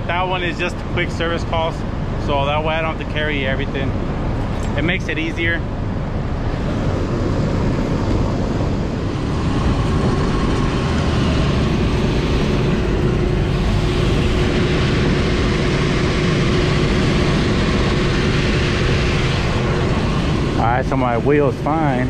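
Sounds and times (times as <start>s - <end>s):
air conditioning unit droning: 0.0s - 22.0s.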